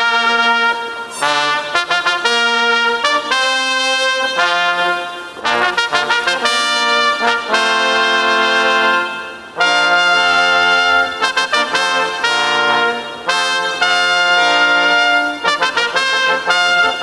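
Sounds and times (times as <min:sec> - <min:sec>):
brass ensemble playing chords: 0:00.0 - 0:17.0.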